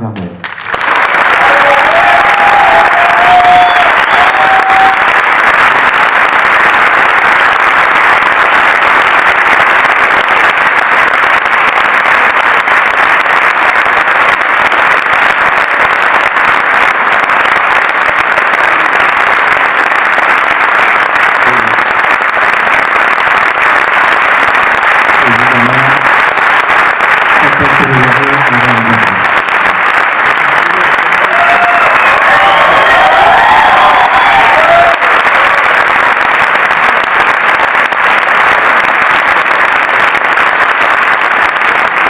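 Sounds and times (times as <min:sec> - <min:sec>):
large audience applauding: 0:00.0 - 0:42.0.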